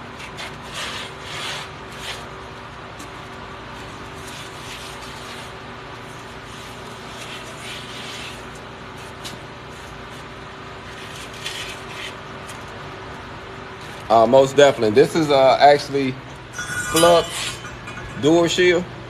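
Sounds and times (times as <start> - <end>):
workshop mechanical hum: 0.0 - 19.0.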